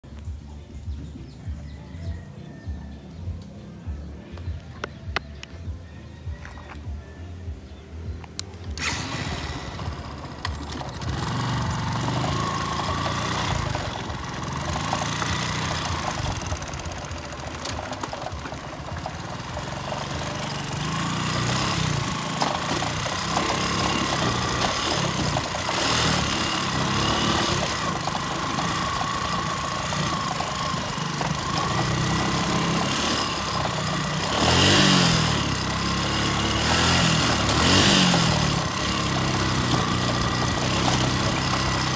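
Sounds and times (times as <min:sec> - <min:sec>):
engine running with whine: 0:00.0 - 0:41.9.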